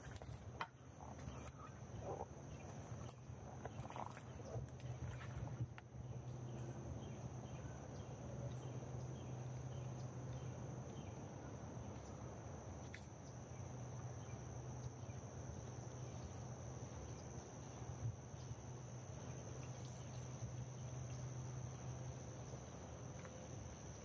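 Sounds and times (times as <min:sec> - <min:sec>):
insects trilling: 0:00.0 - 0:24.0
low background hum: 0:00.0 - 0:24.0.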